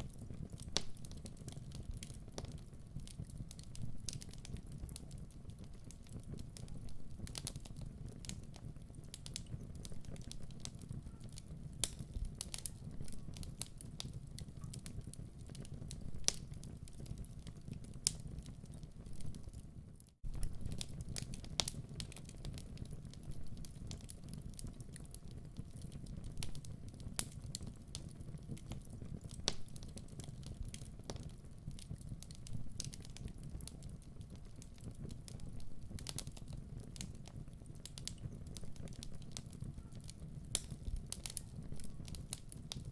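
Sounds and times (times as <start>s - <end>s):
low rumble of flames: 0.0s - 42.9s
wood fire crackling and popping: 0.0s - 42.9s.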